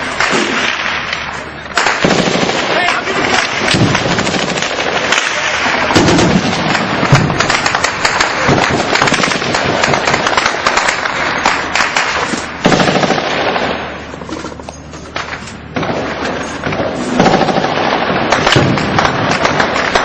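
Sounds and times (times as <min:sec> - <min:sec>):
airsoft guns firing full-auto: 0:00.0 - 0:14.1, 0:15.2 - 0:20.0.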